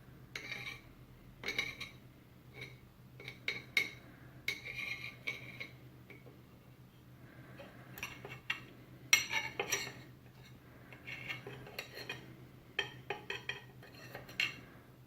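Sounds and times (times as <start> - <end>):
fork scraping on a plate: 0.4 - 5.8, 7.6 - 14.7.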